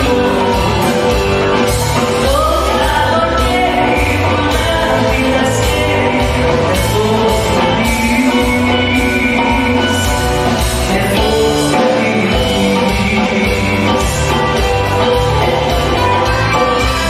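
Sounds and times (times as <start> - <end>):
electric bass: 0.0 - 17.0
live band playing: 0.0 - 17.0
woman singing: 0.0 - 17.0.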